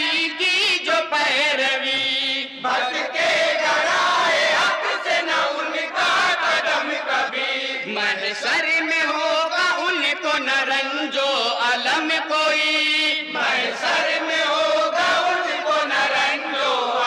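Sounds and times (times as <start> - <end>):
men singing in chorus: 0.0 - 17.0.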